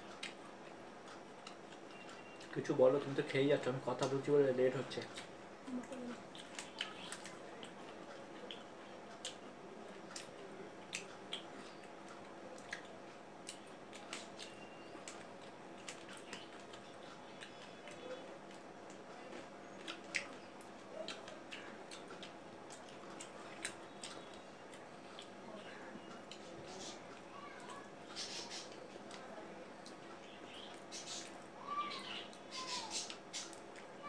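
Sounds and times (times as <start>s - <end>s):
faint steady hum: 0.0s - 34.0s
people chewing fruit: 0.0s - 34.0s.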